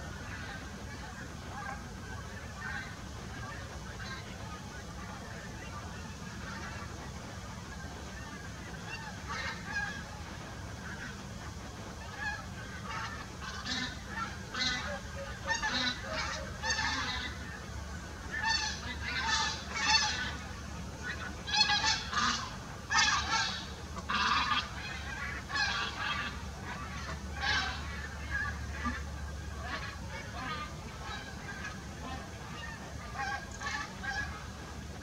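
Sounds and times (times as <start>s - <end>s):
swans honking: 0.0s - 35.0s.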